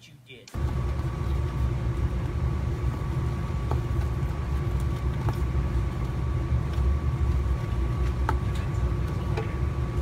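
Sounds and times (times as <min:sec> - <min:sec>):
low rumbling hum: 0:00.5 - 0:10.0.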